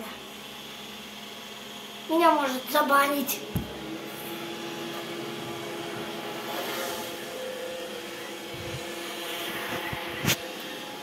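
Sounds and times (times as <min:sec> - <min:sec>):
robot vacuum cleaner whirring: 0:00.2 - 0:11.0.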